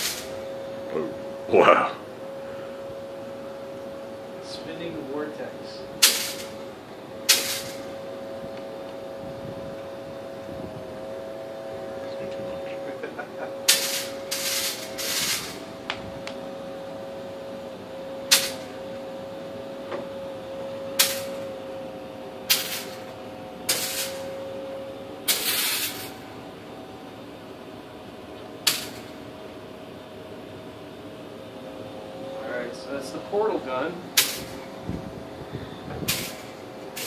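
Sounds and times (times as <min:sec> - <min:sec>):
steady wobbling hum: 0:00.0 - 0:37.0.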